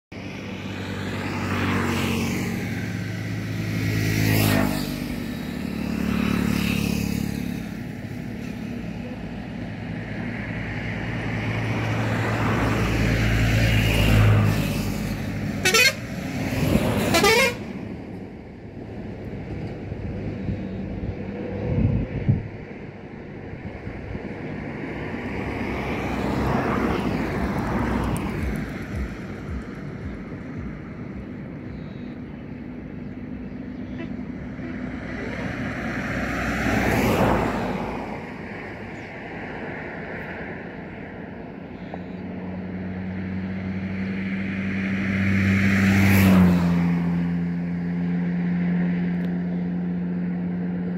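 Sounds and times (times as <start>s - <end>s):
road vehicles passing: 0.1s - 50.9s.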